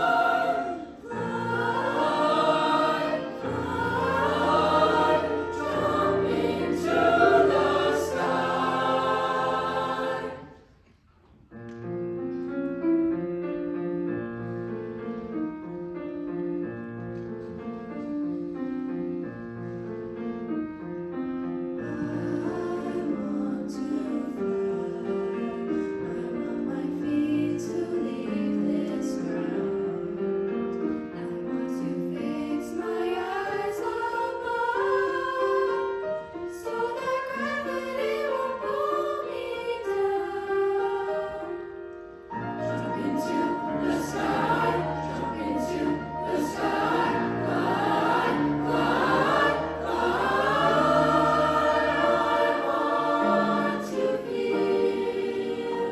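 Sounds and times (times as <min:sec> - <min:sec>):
piano accompaniment: 0:00.0 - 0:10.7, 0:11.5 - 0:55.9
choir singing: 0:00.0 - 0:10.9, 0:21.7 - 0:55.9.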